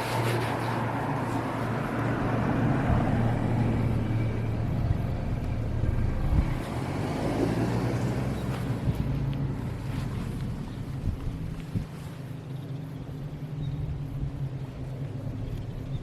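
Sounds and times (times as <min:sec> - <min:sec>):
outdoor background noise: 0:00.0 - 0:16.0
vehicle engine rumbling: 0:00.0 - 0:16.0.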